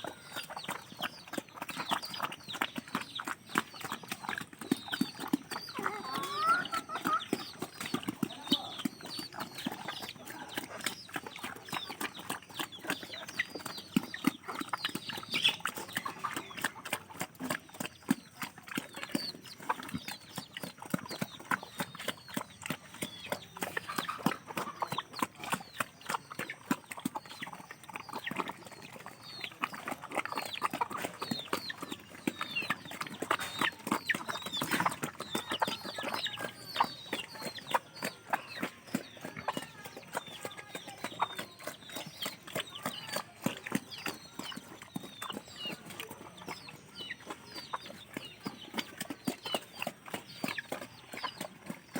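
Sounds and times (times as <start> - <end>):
chickens clucking: 0.0 - 51.9
chicks peeping: 0.0 - 51.9.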